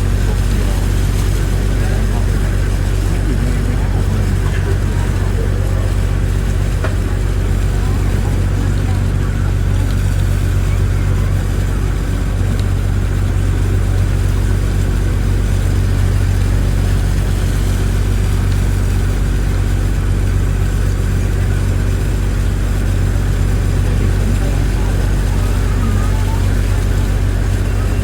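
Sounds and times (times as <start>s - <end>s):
engine idling drone: 0.0s - 28.0s.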